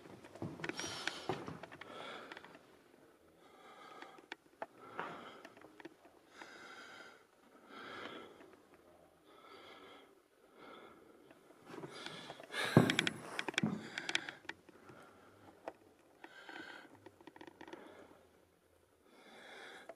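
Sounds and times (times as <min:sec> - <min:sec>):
person breathing heavily: 0:00.6 - 0:02.7, 0:03.3 - 0:08.6, 0:09.2 - 0:18.3, 0:19.0 - 0:19.9.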